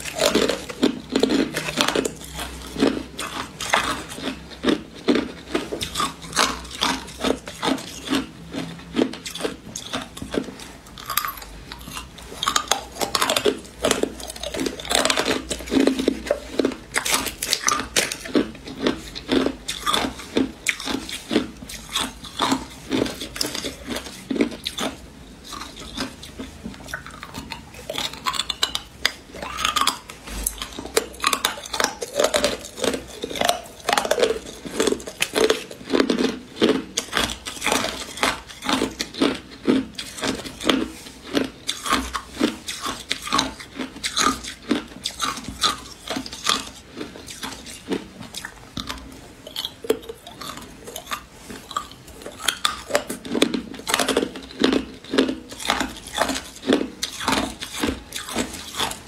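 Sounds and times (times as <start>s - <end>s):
ice crunching while chewed: 0.0s - 59.0s.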